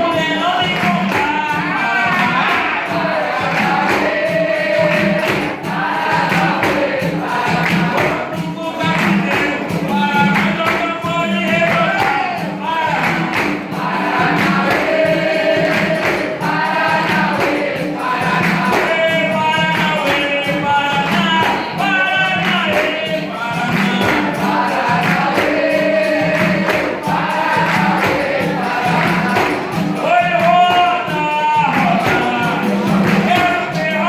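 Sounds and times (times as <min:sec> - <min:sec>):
group singing: 0:00.0 - 0:34.0
percussion steady beat: 0:00.0 - 0:34.0.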